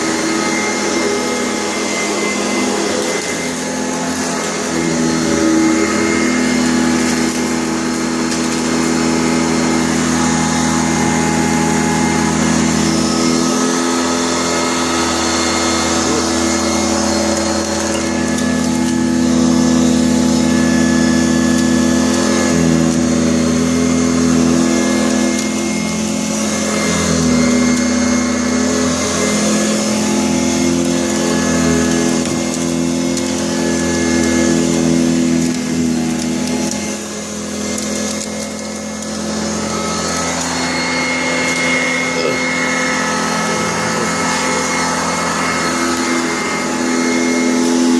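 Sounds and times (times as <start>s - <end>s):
upright vacuum cleaner running: 0.0s - 47.9s.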